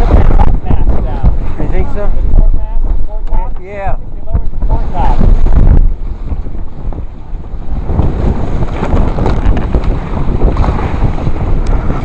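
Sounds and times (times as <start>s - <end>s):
water rushing past hull: 0.0s - 12.0s
wind buffeting microphone: 0.0s - 12.0s.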